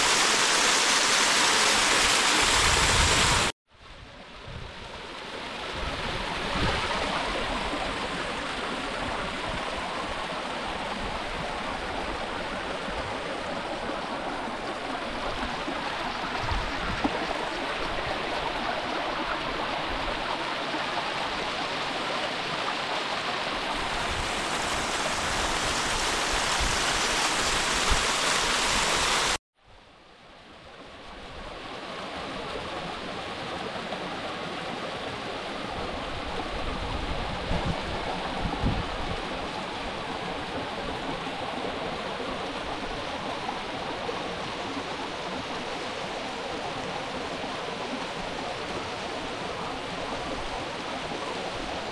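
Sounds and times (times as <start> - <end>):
river water flowing: 0.0 - 51.9.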